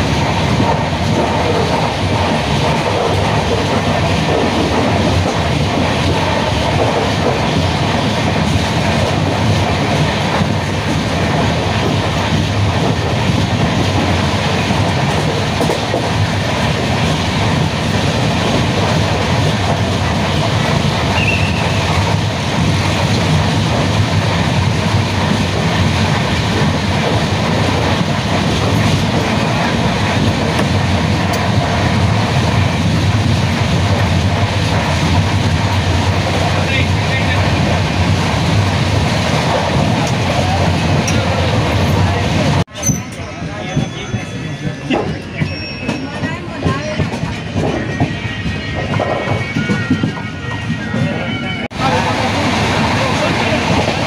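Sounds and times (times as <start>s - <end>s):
train rumbling and rattling on track: 0.0s - 54.0s.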